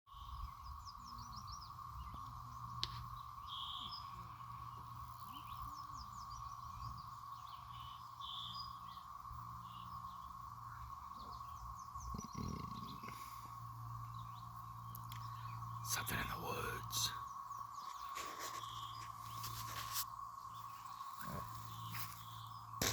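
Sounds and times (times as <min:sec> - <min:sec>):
birds chirping: 0:00.1 - 0:22.9
steady low hum: 0:00.2 - 0:22.9.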